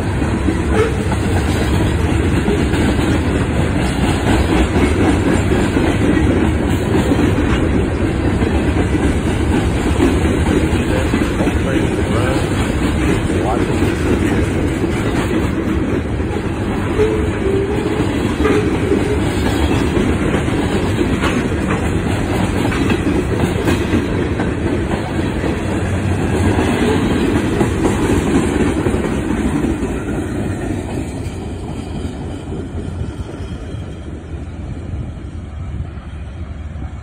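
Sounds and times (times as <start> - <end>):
train cars rumbling on rails: 0.0 - 37.0.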